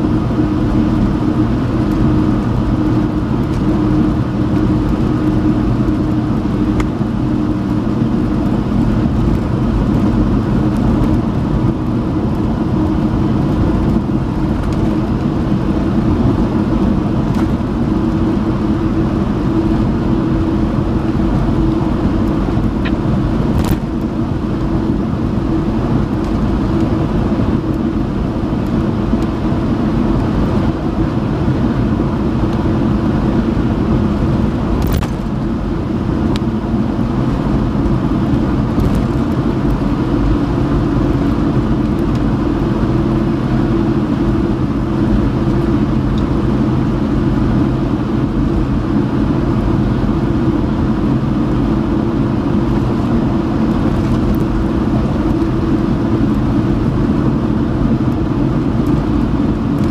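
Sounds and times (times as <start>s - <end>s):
car cabin road and engine drone: 0.0s - 59.9s.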